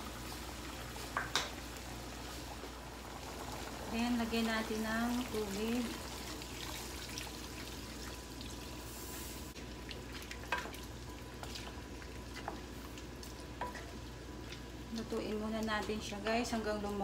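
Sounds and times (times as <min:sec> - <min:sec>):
water hissing in hot pan: 0:00.0 - 0:16.3.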